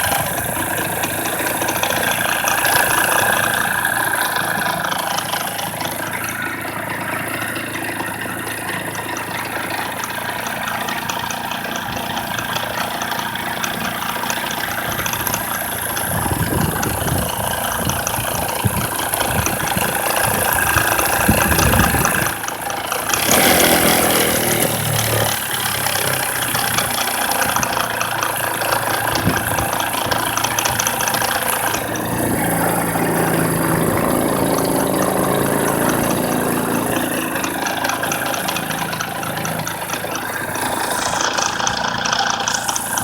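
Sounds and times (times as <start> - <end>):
scooter engine idling with rattle: 0.0 - 43.0.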